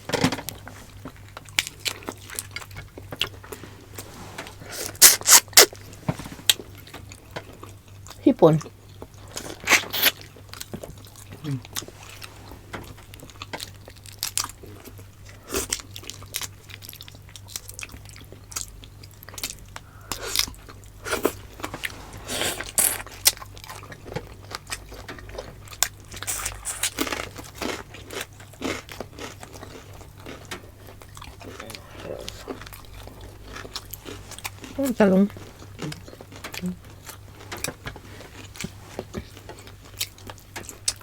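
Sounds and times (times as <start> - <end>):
people chewing food: 0.0 - 41.0
food crunching: 0.4 - 41.0.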